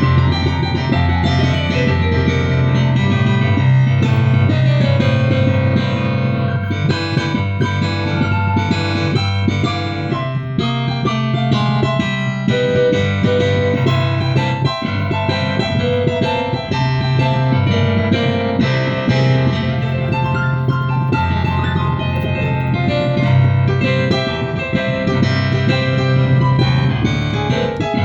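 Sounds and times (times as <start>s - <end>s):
keyboard playing piano-like music: 0.0s - 28.0s
sustained low bass notes: 0.0s - 28.0s.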